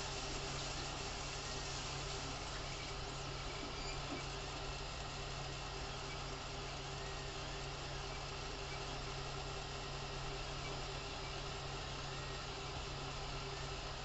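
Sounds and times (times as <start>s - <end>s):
three d printer humming and whirring: 0.0s - 14.0s.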